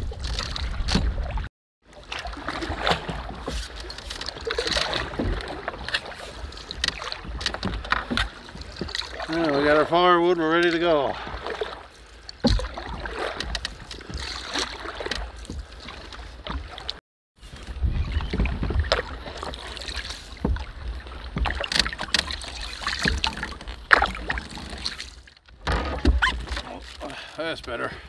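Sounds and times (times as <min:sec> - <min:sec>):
paddle splashing water: 0:00.0 - 0:28.0
water lapping along hull: 0:00.0 - 0:28.0.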